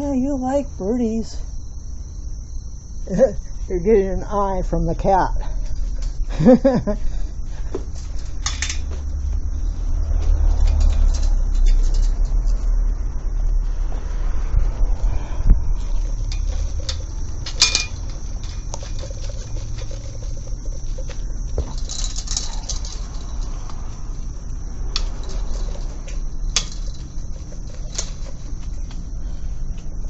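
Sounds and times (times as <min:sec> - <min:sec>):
handling rumble and rustling: 0:05.5 - 0:30.0.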